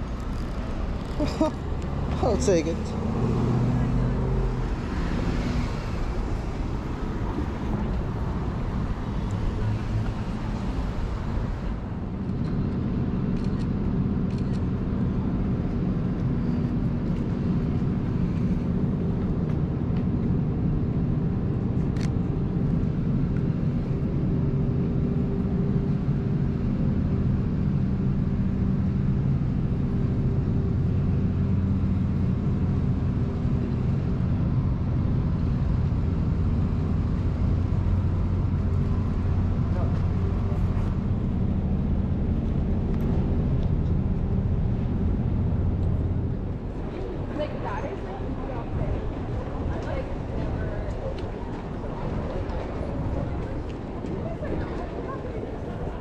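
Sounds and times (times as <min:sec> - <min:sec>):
traffic engines humming: 0:00.0 - 0:56.0.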